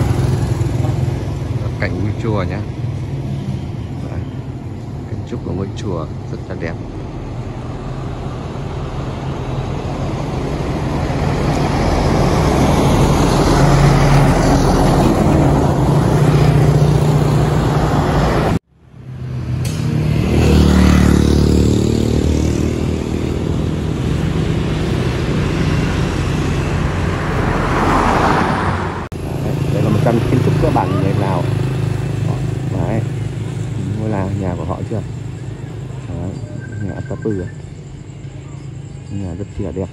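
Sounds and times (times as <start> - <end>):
vehicle engine passing: 0.0 - 38.2
cars going by: 0.0 - 39.9
engine and road noise: 0.0 - 39.9.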